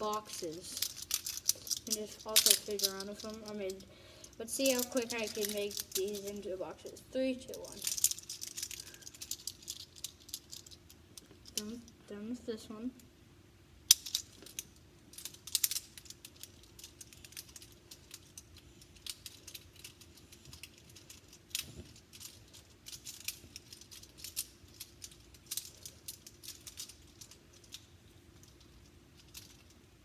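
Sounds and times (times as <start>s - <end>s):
plastic toy clicks and rattles: 0.0s - 11.9s, 13.9s - 29.8s.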